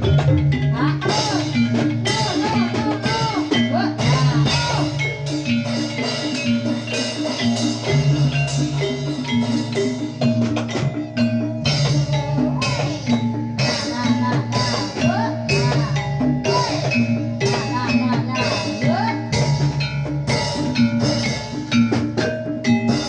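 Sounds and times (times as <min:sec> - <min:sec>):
drums: 0:00.0 - 0:23.0
metallophones playing melody: 0:00.0 - 0:23.0.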